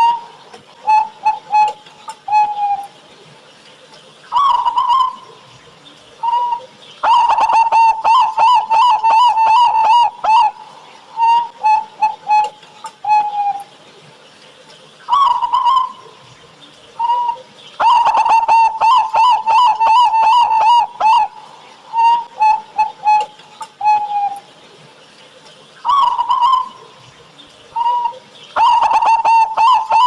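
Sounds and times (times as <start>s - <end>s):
doves cooing: 0.0s - 30.0s.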